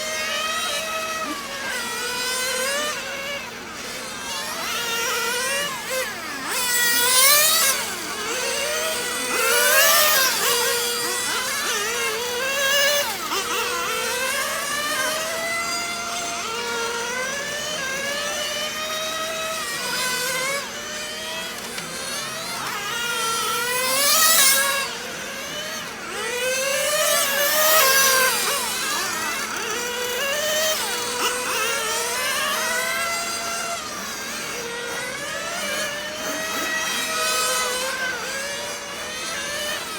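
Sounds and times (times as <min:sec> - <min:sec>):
rc car engines screaming: 0:00.0 - 0:39.9.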